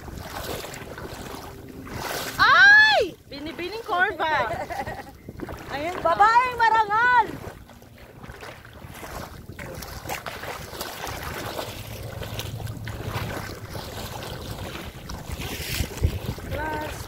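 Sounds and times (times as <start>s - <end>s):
water sloshing around wading legs: 0.0s - 17.0s
wind buffeting microphone: 0.0s - 17.0s.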